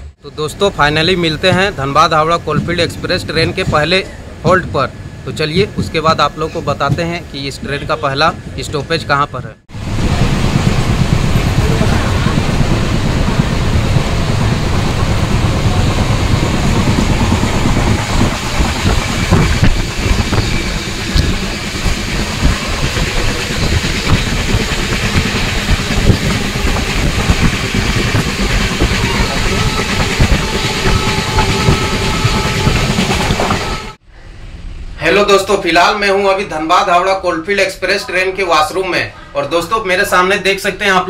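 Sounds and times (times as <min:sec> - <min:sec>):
train rumbling and rattling: 0:00.0 - 0:41.0.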